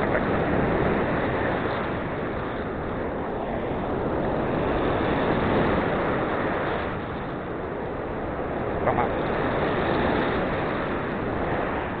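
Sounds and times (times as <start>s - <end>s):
ocean surf roaring: 0.0s - 12.0s
wind buffeting microphone: 0.0s - 12.0s.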